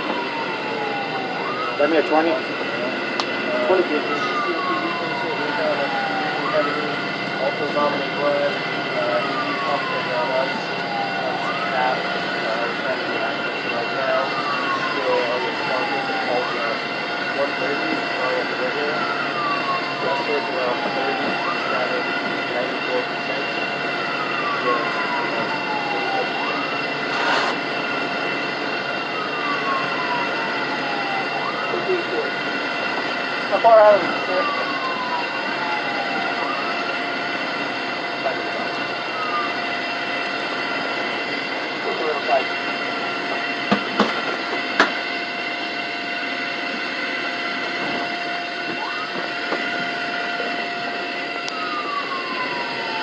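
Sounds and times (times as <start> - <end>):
faint steady tones: 0.0 - 53.0
muffled siren wailing: 0.0 - 53.0
road and engine rumble: 0.0 - 53.0.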